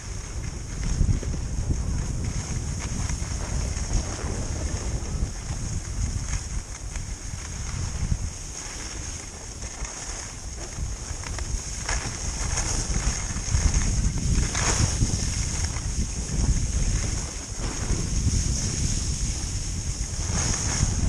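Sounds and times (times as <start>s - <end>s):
skis hissing on snow: 0.0s - 21.0s
wind buffeting microphone: 0.0s - 21.0s.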